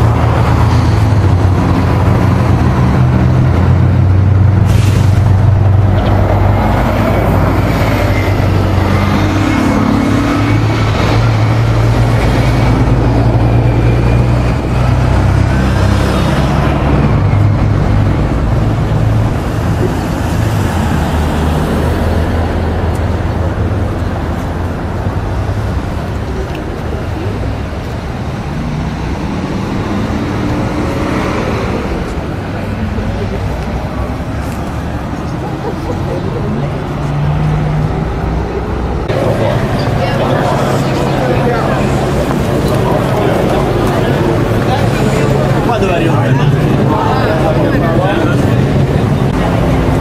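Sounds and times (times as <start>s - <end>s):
passing cars: 0.0s - 50.0s
vehicle engine rumble: 0.0s - 50.0s.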